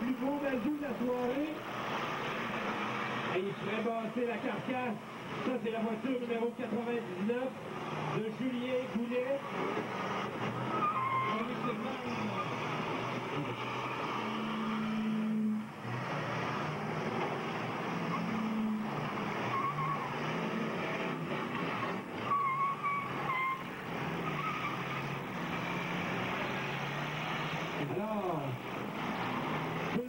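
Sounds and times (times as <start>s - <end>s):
car engines revving: 0.0s - 30.0s
cars crashing: 0.0s - 30.0s
tyres squealing: 0.0s - 30.0s.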